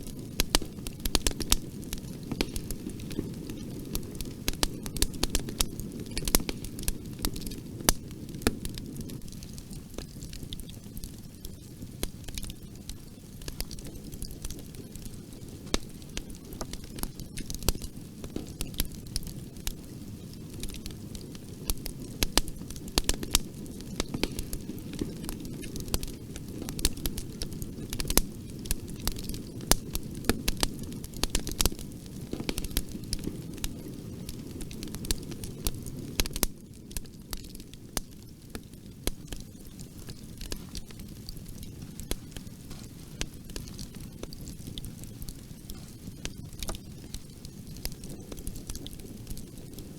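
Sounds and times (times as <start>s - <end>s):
bonfire burning: 0.0s - 49.9s.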